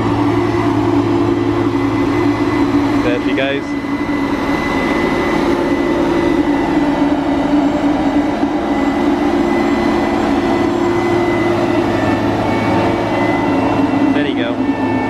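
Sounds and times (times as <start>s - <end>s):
combine harvester diesel engine: 0.0s - 15.0s
thin high whine: 0.0s - 15.0s.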